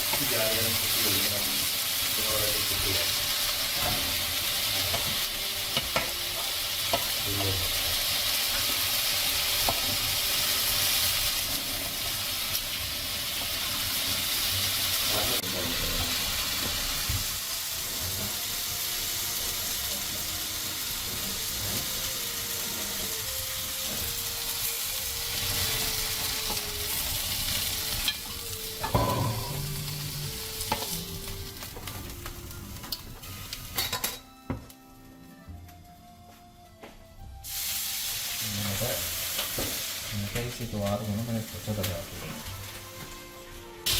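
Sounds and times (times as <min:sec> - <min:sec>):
meat frying and sizzling: 0:00.0 - 0:35.1, 0:37.2 - 0:43.9.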